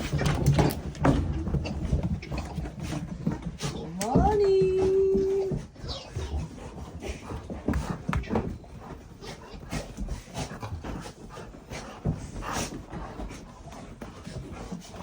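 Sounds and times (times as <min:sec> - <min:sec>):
dogs panting and sniffing: 0:00.0 - 0:15.0.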